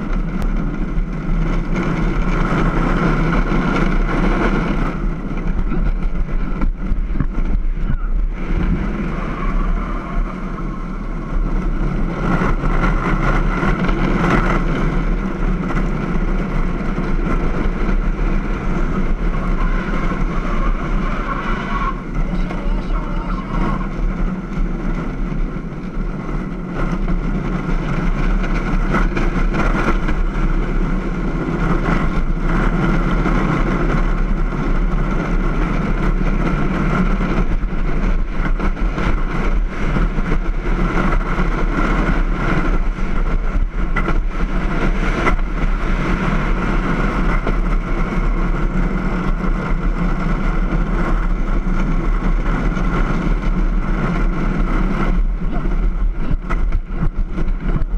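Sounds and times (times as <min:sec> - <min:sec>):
kart wheels rolling on asphalt: 0:00.0 - 0:57.9
wind rushing over microphone: 0:00.0 - 0:57.9.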